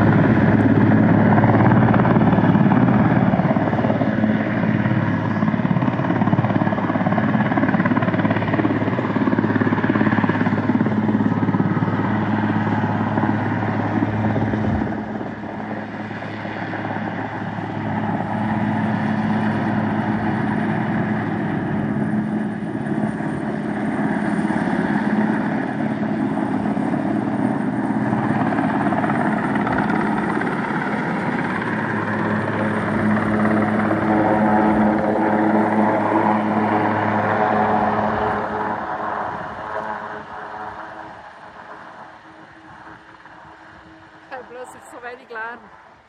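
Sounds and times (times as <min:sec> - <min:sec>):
helicopter hovering: 0:00.0 - 0:46.0.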